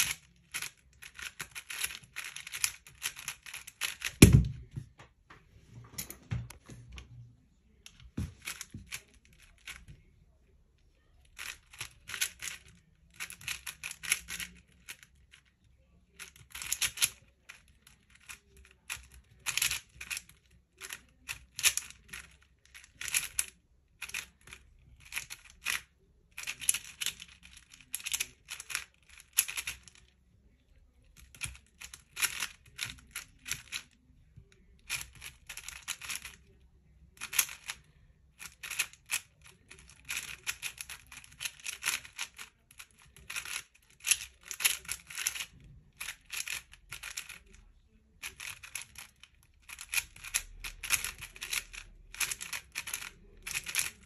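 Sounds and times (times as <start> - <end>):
puzzle cube clicking turns: 0.0 - 4.4, 8.4 - 9.9, 11.3 - 15.5, 16.1 - 30.1, 31.1 - 47.6, 48.2 - 54.0.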